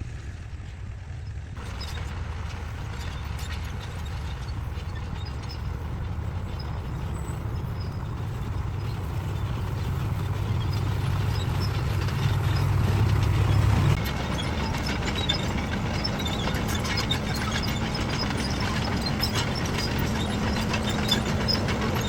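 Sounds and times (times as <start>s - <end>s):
heavy machine engine running: 0.0s - 22.0s
metal rattling clatter: 1.6s - 22.0s.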